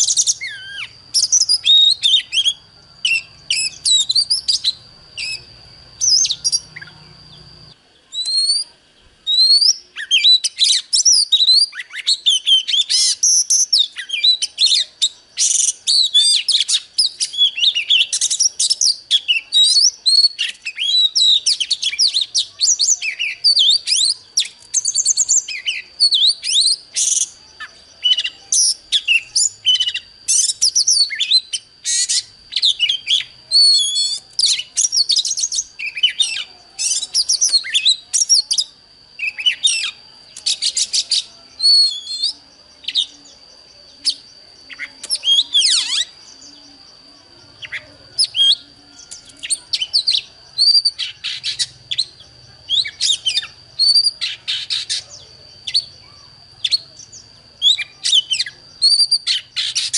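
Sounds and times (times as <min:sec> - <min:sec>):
bird singing whistles and trills: 0:00.0 - 0:59.9.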